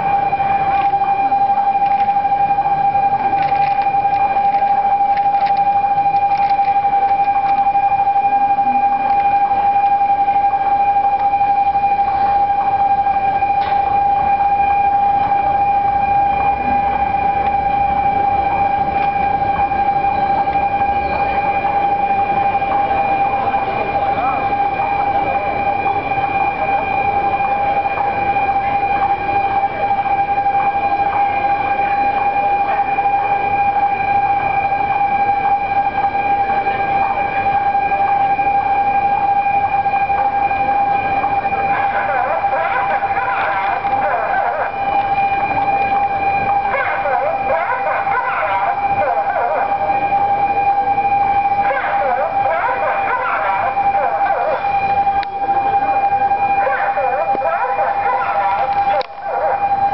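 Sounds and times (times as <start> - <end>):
level crossing alarm tone: 0.0 - 59.9
street noise: 0.0 - 59.9.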